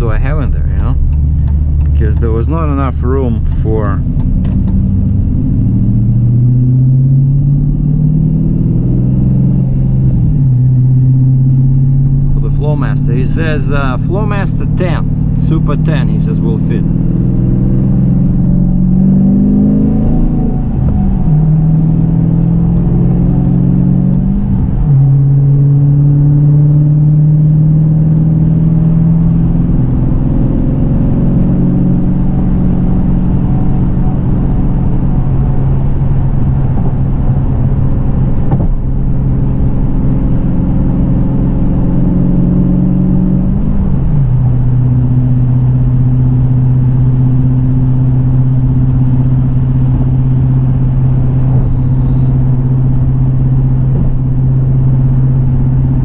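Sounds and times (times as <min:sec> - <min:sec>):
car engine revving while driving: 0:00.0 - 0:56.0.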